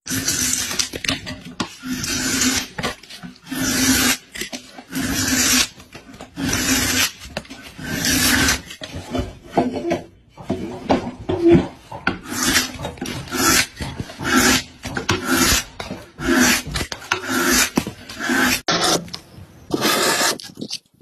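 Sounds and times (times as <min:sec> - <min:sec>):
carving blade scraping wood: 0:00.1 - 0:21.0.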